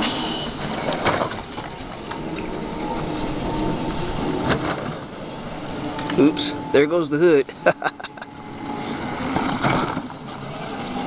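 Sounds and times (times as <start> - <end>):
rc truck electric motor: 0.0 - 11.0.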